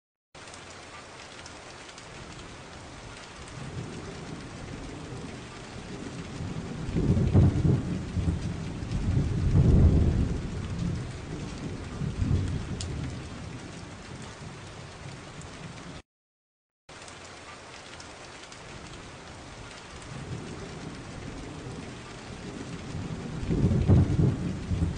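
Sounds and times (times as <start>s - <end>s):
steady rain: 0.4s - 16.0s, 16.9s - 24.9s
rolling thunder: 2.2s - 16.0s, 18.7s - 24.9s.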